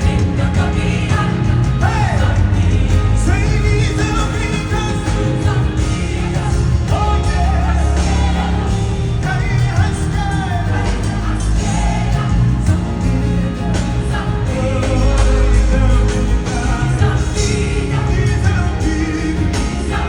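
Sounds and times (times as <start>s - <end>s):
band with heavy bass line: 0.0s - 20.0s
gospel singing: 0.0s - 20.0s.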